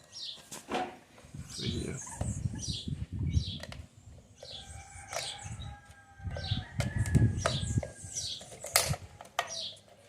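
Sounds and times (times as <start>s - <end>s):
birds chirping: 1.4s - 10.0s.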